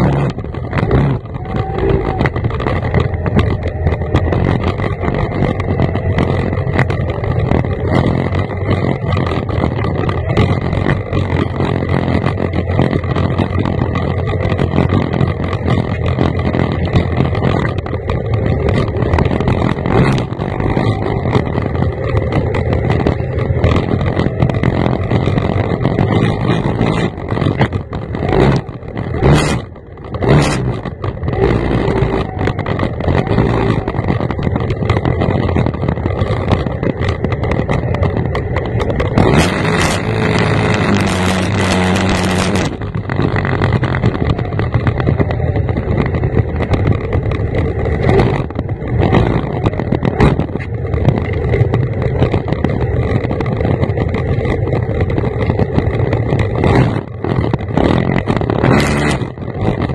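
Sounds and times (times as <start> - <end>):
outboard engine running hard: 0.0 - 59.9.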